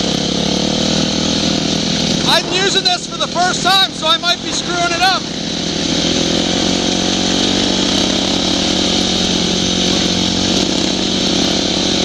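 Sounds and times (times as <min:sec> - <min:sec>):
dirt bike engine droning: 0:00.0 - 0:12.0.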